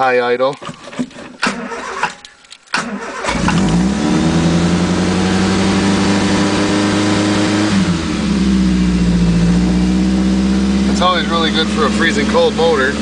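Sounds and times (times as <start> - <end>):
car engine cranking and idling: 0.0 - 13.0.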